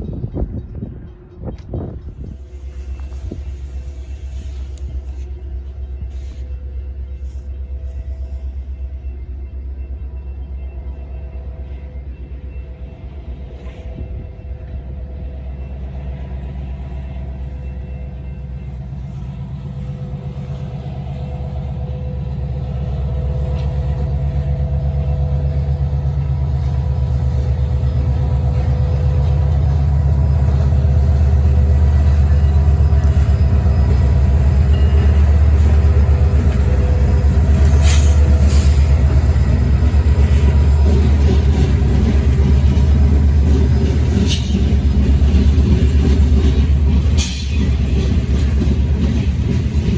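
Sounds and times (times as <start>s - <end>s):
diesel locomotive engine drone: 0.0s - 49.9s.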